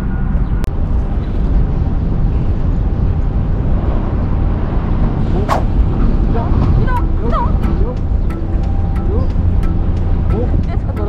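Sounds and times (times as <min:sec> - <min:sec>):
wind buffeting microphone: 0:00.8 - 0:11.0.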